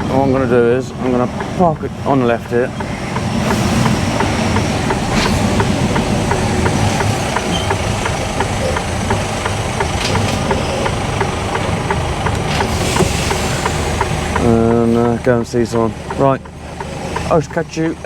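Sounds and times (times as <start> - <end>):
diesel engine running in cab: 0.0 - 18.0
indicator ticking: 0.0 - 18.0.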